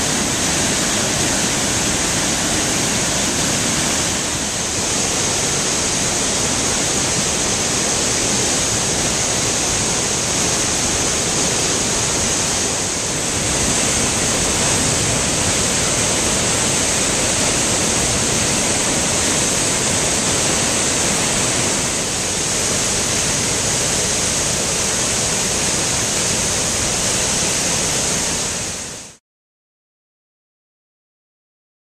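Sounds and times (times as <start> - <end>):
waterfall rushing over rocks: 0.0 - 29.2.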